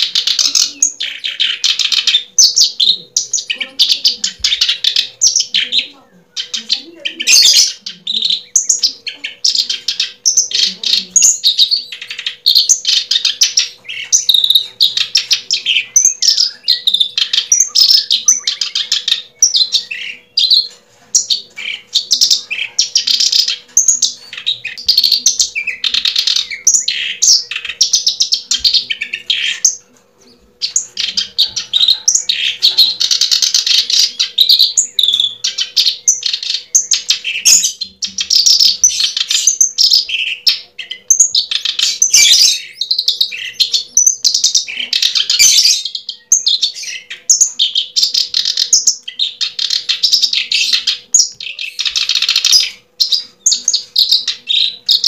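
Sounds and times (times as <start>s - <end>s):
bird chirping and twittering: 0.0s - 55.0s.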